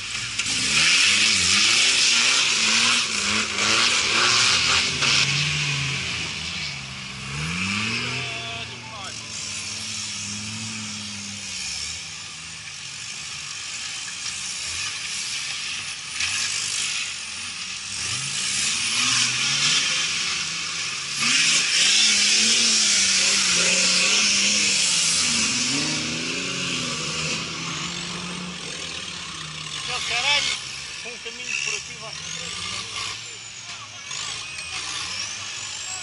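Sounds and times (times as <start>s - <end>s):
off-road vehicle engines revving: 0.0s - 36.0s.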